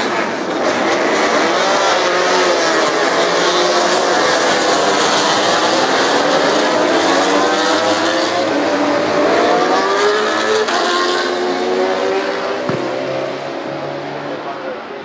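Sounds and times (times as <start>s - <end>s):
racing motorcycles passing: 0.0s - 14.9s.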